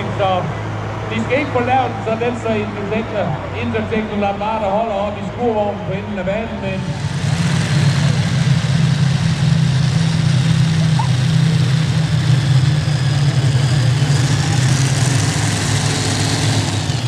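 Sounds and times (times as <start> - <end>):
tractor engines idling: 0.0 - 17.0.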